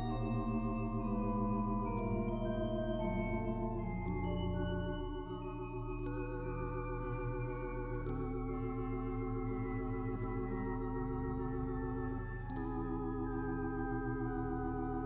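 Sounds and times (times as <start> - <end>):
slow music of tremolo chords: 0.0 - 15.0.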